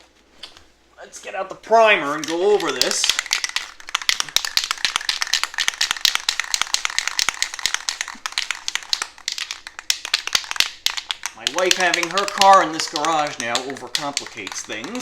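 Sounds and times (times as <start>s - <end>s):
aerosol can rattling: 2.1s - 15.0s.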